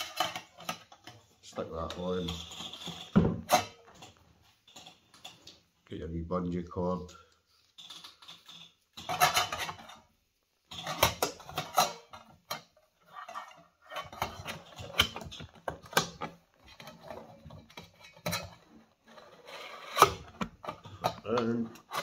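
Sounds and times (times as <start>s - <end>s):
metal cook set clinking and rattling: 0.0s - 5.6s, 7.8s - 10.1s, 10.7s - 22.0s.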